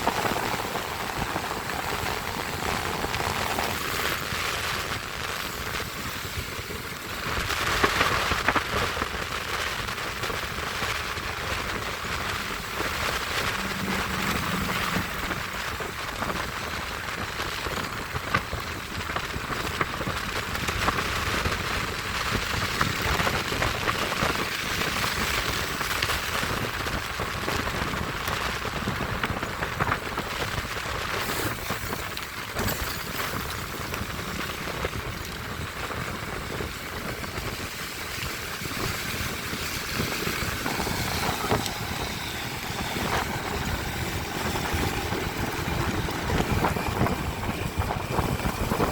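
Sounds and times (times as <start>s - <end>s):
steady rain: 0.0s - 48.9s
tyres on a wet road: 0.0s - 48.9s.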